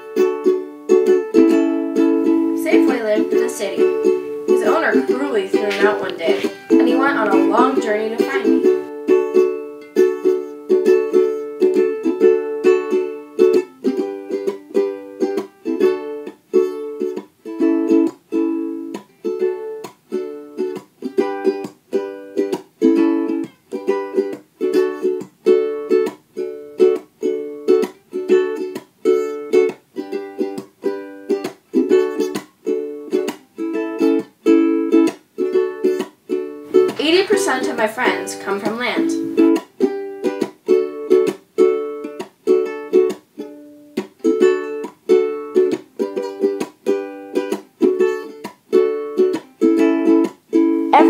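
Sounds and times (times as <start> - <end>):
plucked string instrument strumming: 0.0 - 51.0.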